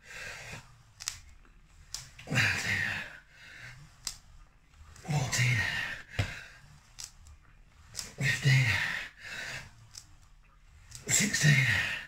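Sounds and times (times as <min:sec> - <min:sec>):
ab wheel rolling: 0:00.0 - 0:12.0.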